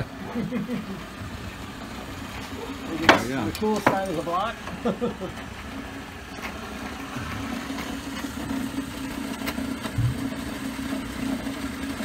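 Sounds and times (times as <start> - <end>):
drill press motor humming: 0.0 - 12.0.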